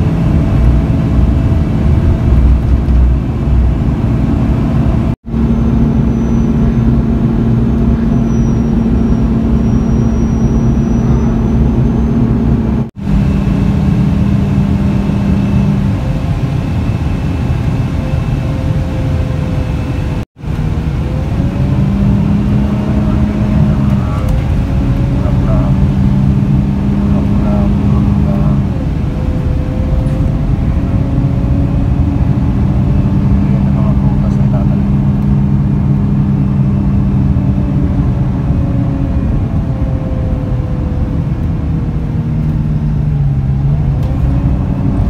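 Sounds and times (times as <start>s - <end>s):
bus engine and road noise: 0.0s - 45.0s.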